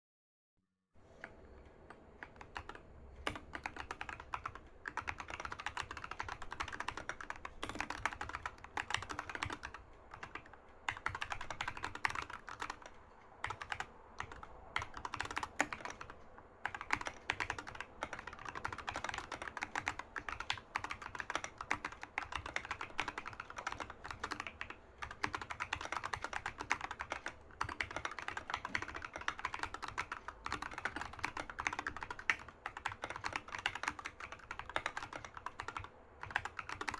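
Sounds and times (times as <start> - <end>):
mechanical keyboard typing: 1.2 - 36.9.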